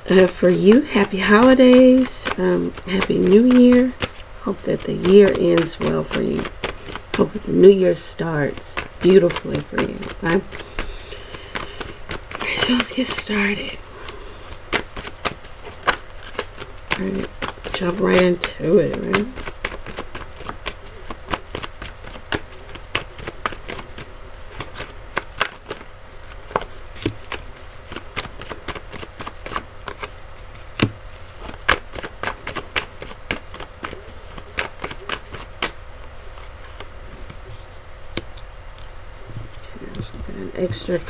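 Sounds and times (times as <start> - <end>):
steady low hum: 0.0 - 41.0
cards shuffling and dealing: 0.4 - 30.2, 30.8 - 41.0.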